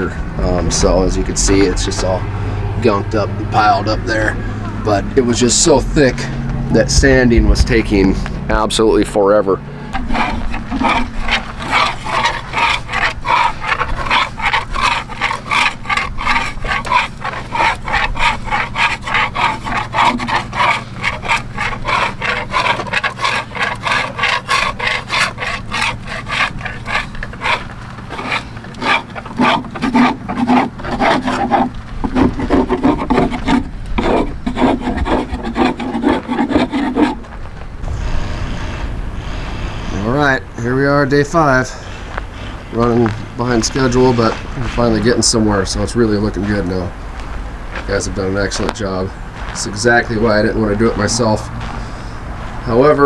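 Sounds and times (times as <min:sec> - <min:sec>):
hand scraper scraping paint off hull: 0:02.8 - 0:09.1, 0:09.9 - 0:40.8, 0:41.4 - 0:46.8.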